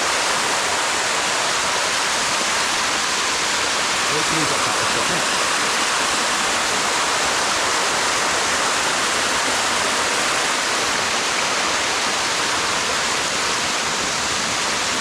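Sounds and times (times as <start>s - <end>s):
waterfall rushing over rock: 0.0s - 15.0s.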